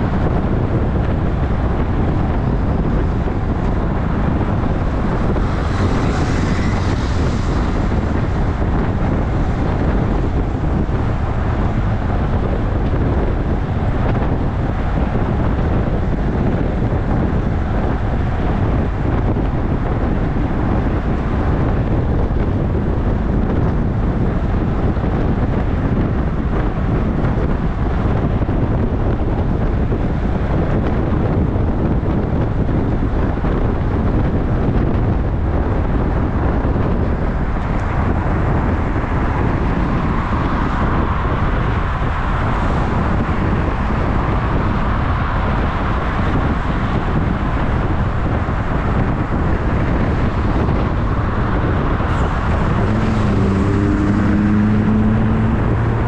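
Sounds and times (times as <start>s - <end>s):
road and traffic noise: 0.0s - 56.0s
wind rushing over microphone: 0.0s - 56.0s.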